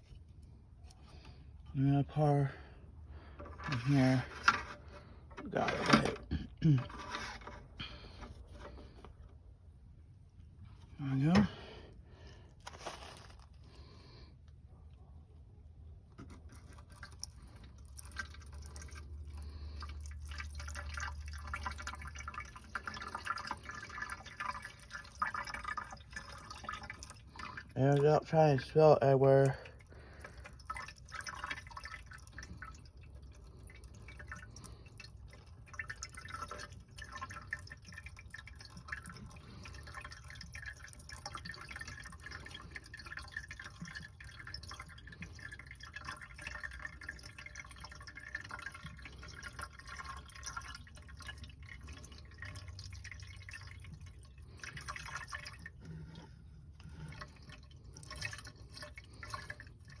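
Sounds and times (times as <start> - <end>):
washer fluid trickling into reservoir: 0.0 - 60.0.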